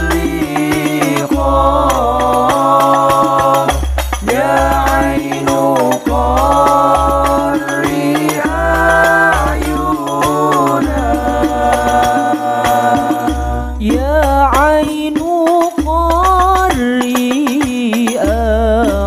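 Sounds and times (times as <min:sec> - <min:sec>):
bass drum: 0:00.0 - 0:19.0
frame drums: 0:00.0 - 0:19.0
male voices singing: 0:00.0 - 0:19.0.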